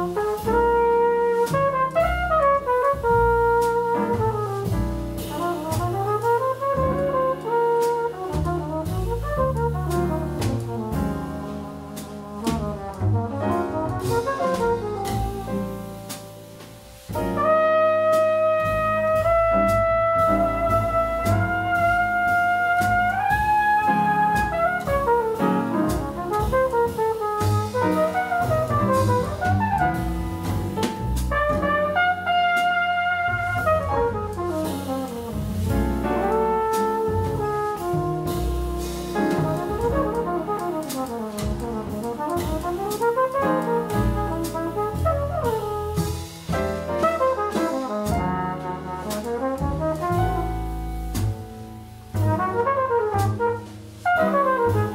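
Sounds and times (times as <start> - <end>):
flugelhorn playing melodic lines: 0.0 - 16.1, 17.2 - 54.9
double bass: 0.0 - 54.9
drum kit: 0.0 - 54.9
piano: 0.0 - 54.9.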